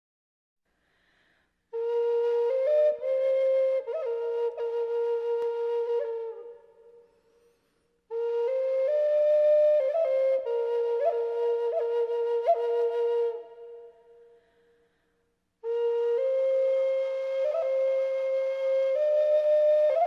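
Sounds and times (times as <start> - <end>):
solo flute melody: 1.7 - 7.5, 8.1 - 14.4, 15.6 - 20.0.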